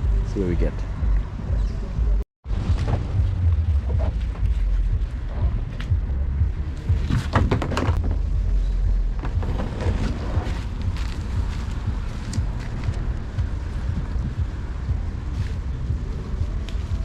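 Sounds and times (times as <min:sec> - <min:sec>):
wind buffeting microphone: 0:01.1 - 0:17.0.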